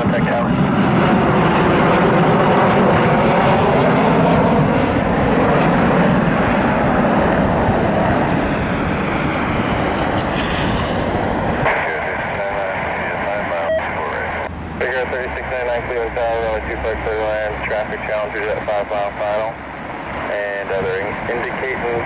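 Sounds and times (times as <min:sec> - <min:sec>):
airplane engines passing: 0:00.0 - 0:22.0.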